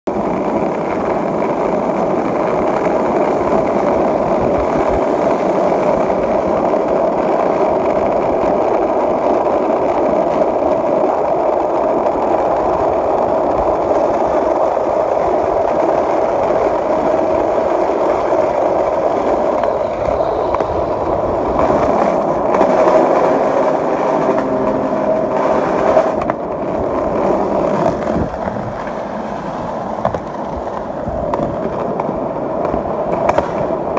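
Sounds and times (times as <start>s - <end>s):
skateboard wheels rolling on asphalt: 0.1s - 33.9s.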